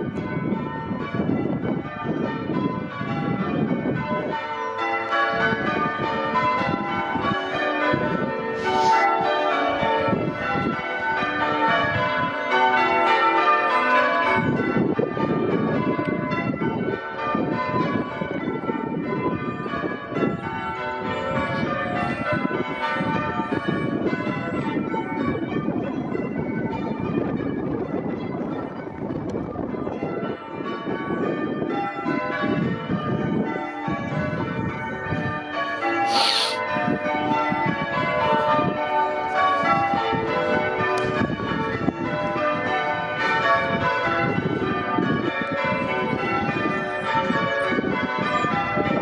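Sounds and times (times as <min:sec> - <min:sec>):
church bells ringing in changes: 0:00.0 - 0:49.0.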